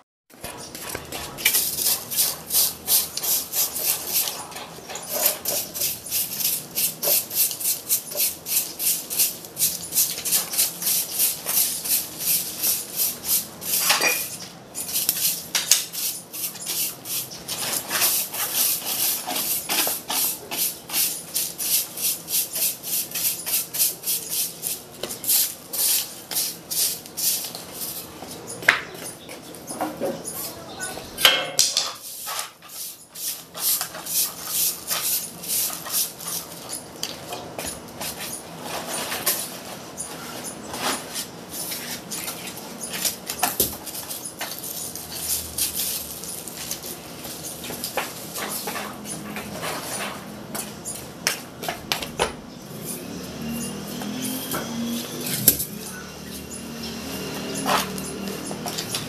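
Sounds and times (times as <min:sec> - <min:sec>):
stick broom sweeping concrete: 0:00.4 - 0:29.1, 0:31.8 - 0:51.9, 0:52.6 - 0:59.0.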